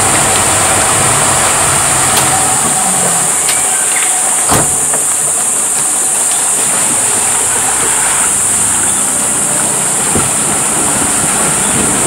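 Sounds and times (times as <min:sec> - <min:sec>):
motorboat engine running: 0:00.0 - 0:12.0
water rushing along hull: 0:00.0 - 0:12.0.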